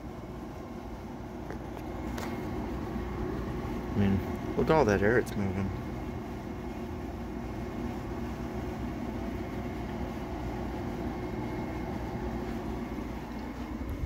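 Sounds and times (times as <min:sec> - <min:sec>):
air conditioner fan running: 0:00.0 - 0:14.0
water slung by fan: 0:00.0 - 0:14.0.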